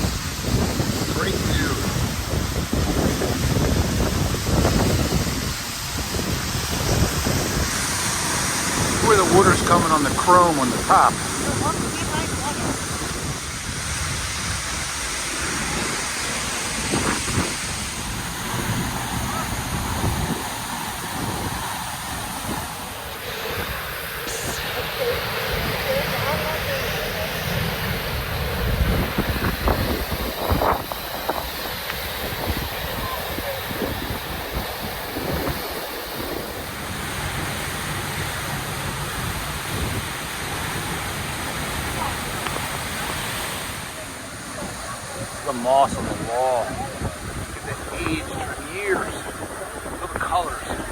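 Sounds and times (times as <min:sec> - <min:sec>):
waterfall rushing: 0:00.0 - 0:50.9
wind buffeting microphone: 0:00.0 - 0:50.9.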